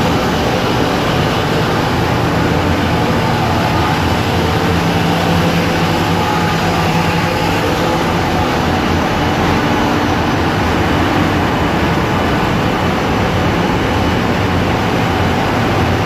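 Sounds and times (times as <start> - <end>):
ship engine room machinery: 0.0 - 16.0.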